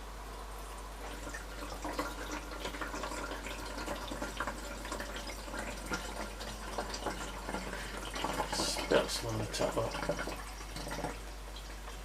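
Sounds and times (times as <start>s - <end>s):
water pouring from a jug: 0.6s - 12.0s.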